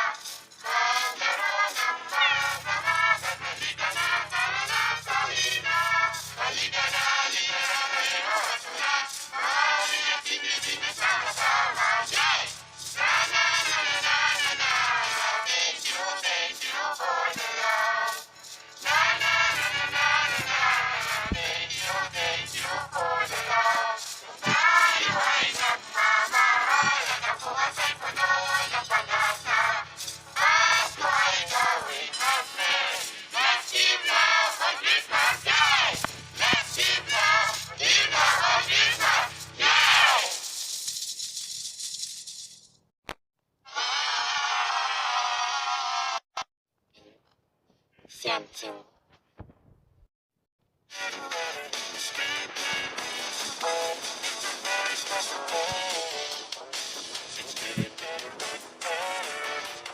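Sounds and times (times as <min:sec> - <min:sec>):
voices singing over music: 0:00.0 - 0:40.6, 0:51.0 - 0:59.9.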